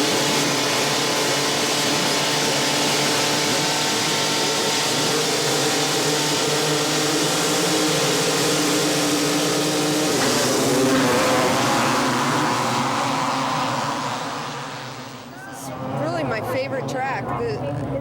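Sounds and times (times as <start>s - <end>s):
motorcycle engines revving high: 0.0s - 18.0s.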